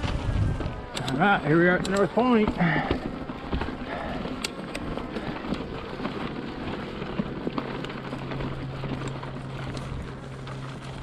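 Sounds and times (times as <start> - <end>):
bike tyres crackling on grit: 0.0 - 11.0
steady low hum: 0.0 - 11.0
small ticks and rattles: 0.8 - 11.0.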